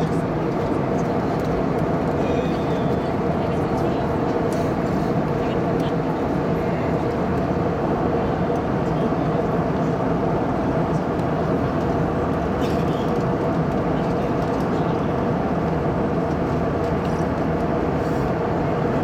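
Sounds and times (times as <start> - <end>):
jet engine rumble in cabin: 0.0 - 19.0.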